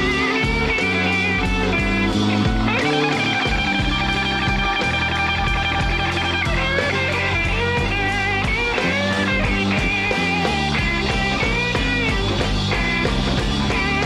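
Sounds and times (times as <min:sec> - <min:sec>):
bass line: 0:00.0 - 0:14.0
drums: 0:00.0 - 0:14.0
electric guitar lead: 0:00.0 - 0:14.0.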